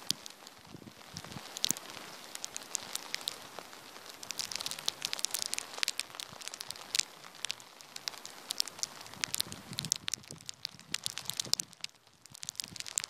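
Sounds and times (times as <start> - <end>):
snow ticking on microphone: 0.0 - 13.0
wind hiss: 0.0 - 13.0.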